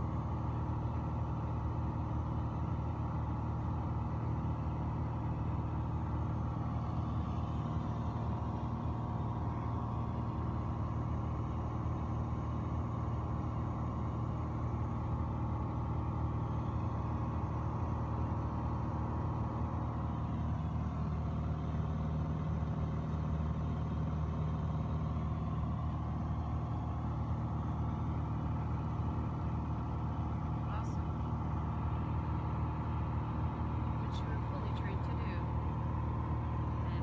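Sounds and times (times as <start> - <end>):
aircraft engine and propeller drone: 0.0 - 37.0.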